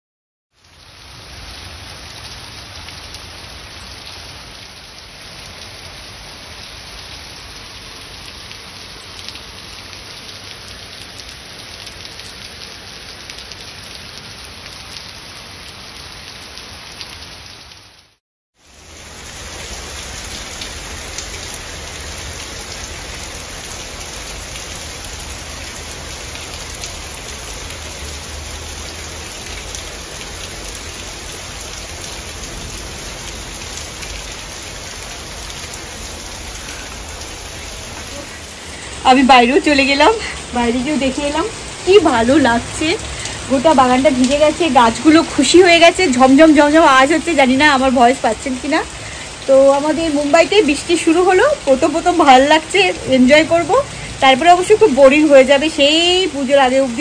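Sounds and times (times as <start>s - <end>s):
heavy rain pouring: 0.6s - 57.0s.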